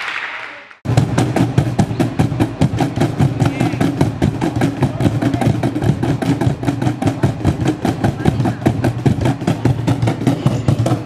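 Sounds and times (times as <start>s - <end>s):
box drums played by hand: 0.9s - 11.0s.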